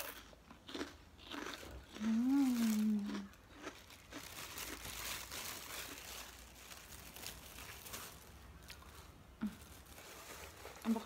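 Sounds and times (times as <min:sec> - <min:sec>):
crunchy food chewing: 0:00.0 - 0:11.0.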